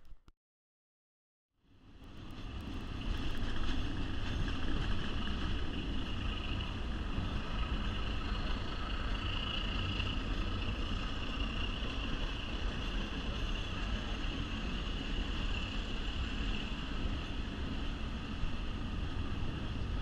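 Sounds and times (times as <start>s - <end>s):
train wheels rumbling on rail: 1.8s - 20.0s.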